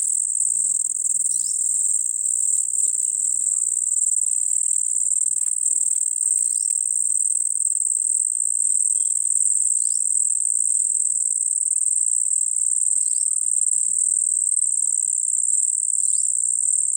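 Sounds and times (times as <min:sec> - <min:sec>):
crickets trilling: 0:00.0 - 0:16.9.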